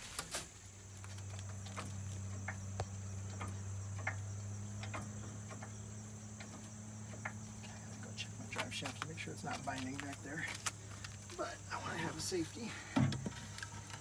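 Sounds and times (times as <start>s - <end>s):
crickets trilling: 0.0s - 14.0s
low steady hum: 0.0s - 14.0s.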